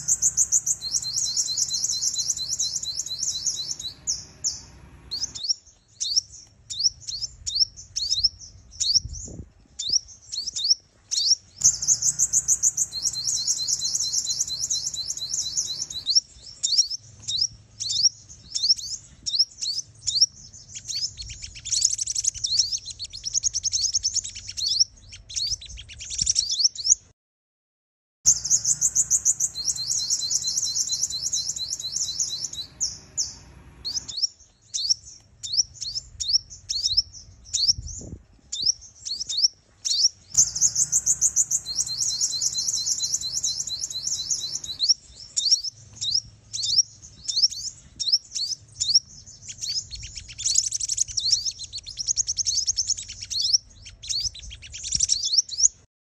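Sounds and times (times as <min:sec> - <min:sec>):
bird chirping and trilling: 0:00.0 - 0:27.0, 0:28.3 - 0:55.8.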